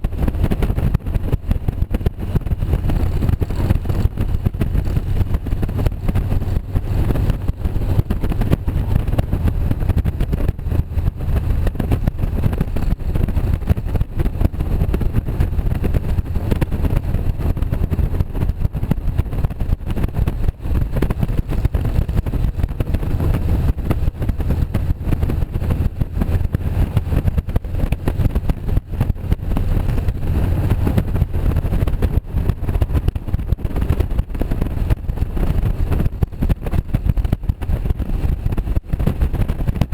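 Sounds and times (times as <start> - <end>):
motorcycle engine running: 0.0 - 39.9
road rush: 0.0 - 39.9.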